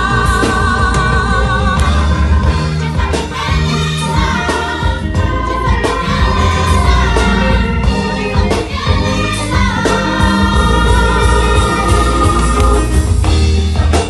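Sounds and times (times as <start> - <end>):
bass-heavy amplified accompaniment: 0.0 - 14.0
gospel choir singing: 0.0 - 14.0.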